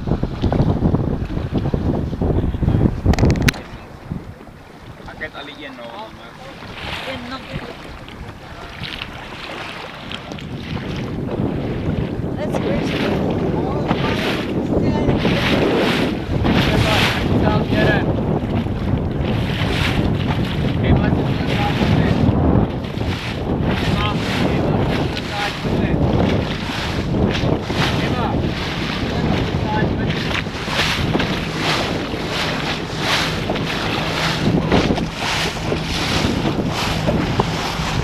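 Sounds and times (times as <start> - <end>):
water lapping against boat hull: 0.0 - 38.0
wind buffeting microphone: 0.0 - 38.0.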